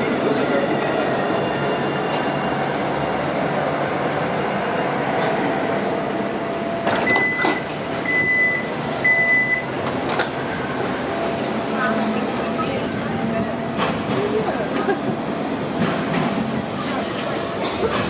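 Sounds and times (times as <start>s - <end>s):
tram rumble: 0.0s - 18.0s.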